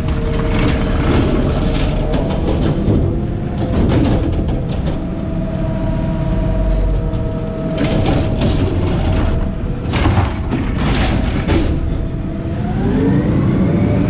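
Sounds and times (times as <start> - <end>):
metal arm and cart clanking: 0.0 - 12.6
diesel engine rumble: 0.0 - 14.0.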